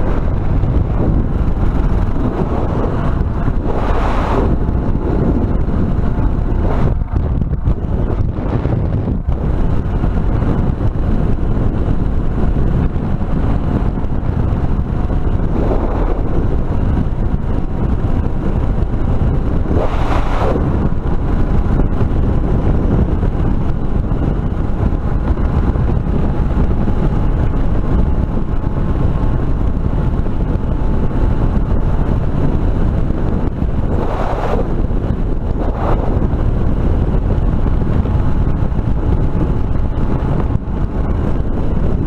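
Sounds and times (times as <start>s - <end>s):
motorcycle engine cruising: 0.0s - 42.0s
wind buffeting microphone: 0.0s - 42.0s.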